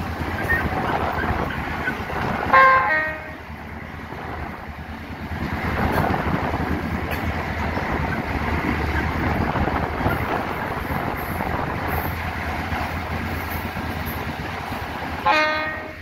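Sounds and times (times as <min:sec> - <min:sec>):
diesel locomotive engine drone: 0:00.0 - 0:16.0
train running noise: 0:00.0 - 0:16.0.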